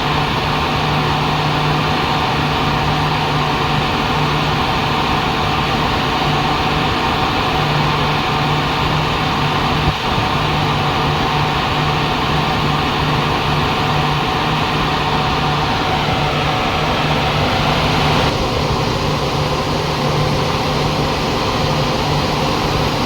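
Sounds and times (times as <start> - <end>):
diesel generator running: 0.0 - 23.0.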